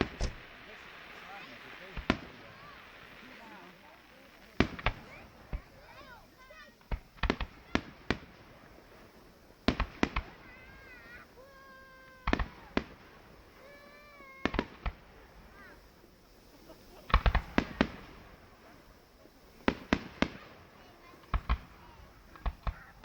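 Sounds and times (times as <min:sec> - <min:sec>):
fireworks shells bursting: 0:00.0 - 0:23.0.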